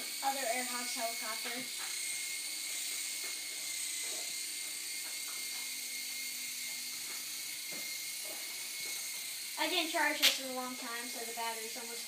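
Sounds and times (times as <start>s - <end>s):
toy helicopter rotor whine: 0.0s - 12.0s.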